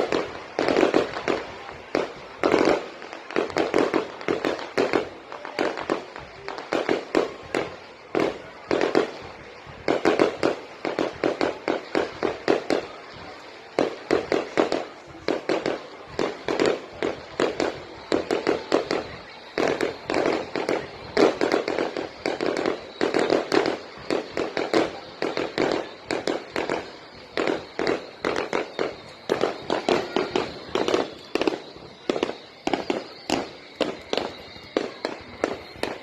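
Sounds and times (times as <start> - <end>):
fireworks banging: 0.0 - 36.0.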